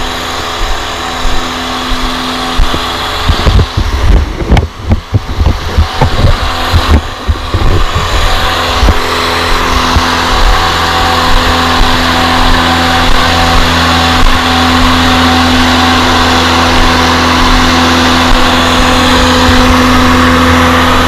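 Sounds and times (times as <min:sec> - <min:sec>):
blower engine running: 0:00.0 - 0:21.0
irregular low thumps: 0:00.0 - 0:21.0.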